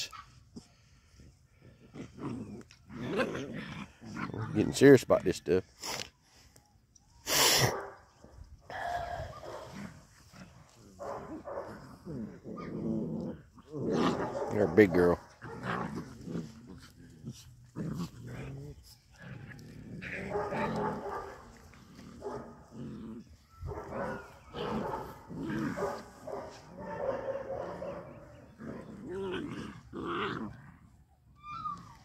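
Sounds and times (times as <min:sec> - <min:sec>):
puppies growling and barking: 0:00.0 - 0:04.8, 0:09.1 - 0:32.0.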